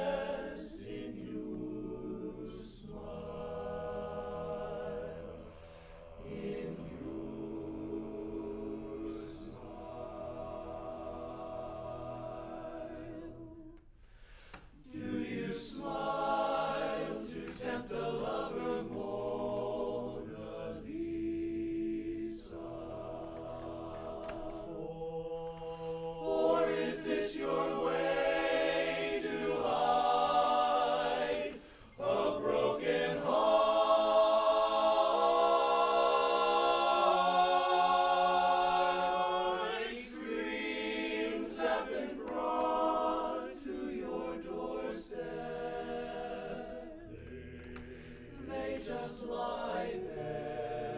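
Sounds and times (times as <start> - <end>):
men's chorus singing a cappella: 0.0 - 13.9, 14.8 - 50.9.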